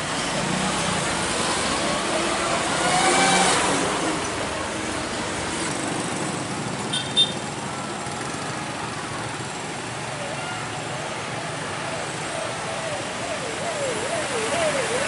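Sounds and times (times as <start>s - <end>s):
cars and motorcycles passing: 0.0s - 15.0s.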